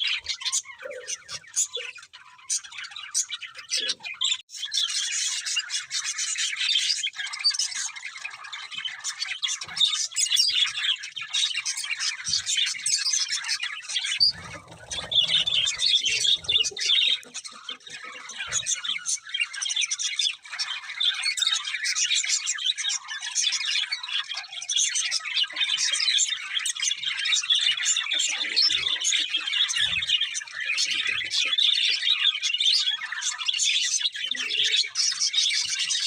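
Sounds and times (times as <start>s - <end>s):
budgerigars chirping and warbling: 0.0s - 36.0s.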